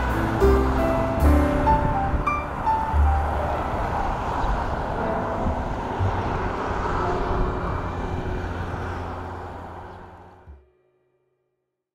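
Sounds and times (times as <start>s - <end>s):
high-speed train passing: 0.0s - 10.6s.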